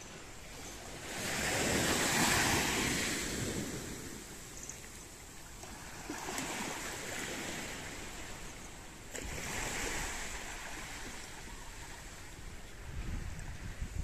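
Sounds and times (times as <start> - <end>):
small waves lapping on sand: 0.0 - 14.0.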